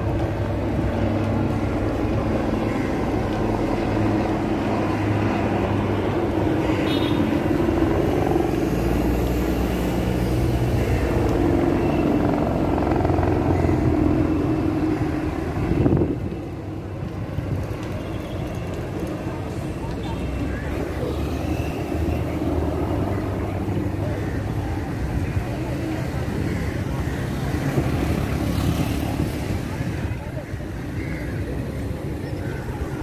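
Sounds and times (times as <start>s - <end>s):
helicopter flying overhead: 0.0s - 33.0s.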